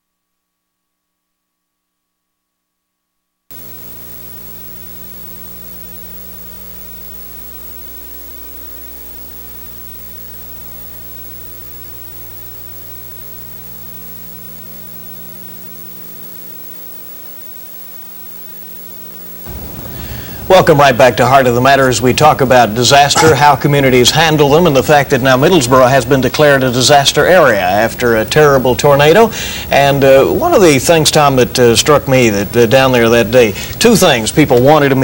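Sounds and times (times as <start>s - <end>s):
low electrical hum: 0.0s - 35.0s
static hiss: 3.5s - 35.0s.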